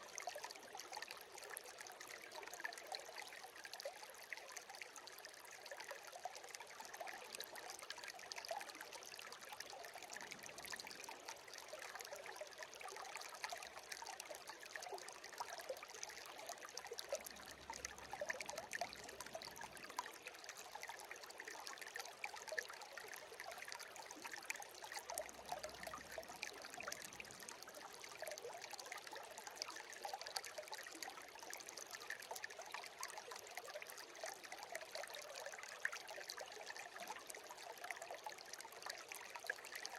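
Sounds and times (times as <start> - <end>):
stream babbling and splashing: 0.0 - 39.9.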